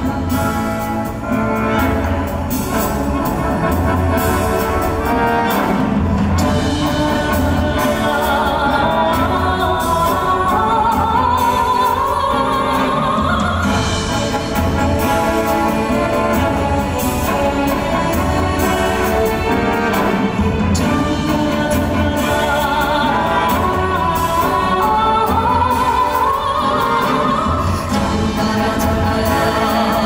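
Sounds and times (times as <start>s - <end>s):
orchestra playing: 0.0s - 30.0s.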